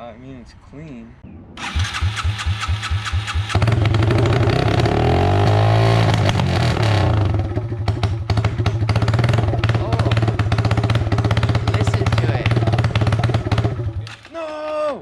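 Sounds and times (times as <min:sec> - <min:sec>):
dirt bike engine starting and revving: 0:01.6 - 0:15.0.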